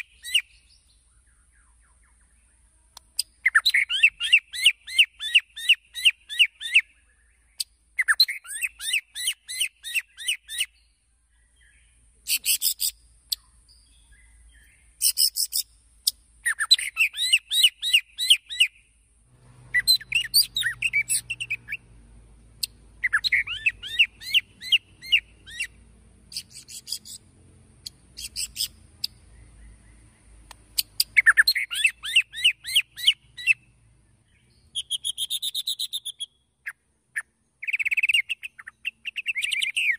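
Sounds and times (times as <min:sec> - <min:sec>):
bird singing rattling phrases: 0:00.0 - 0:39.9.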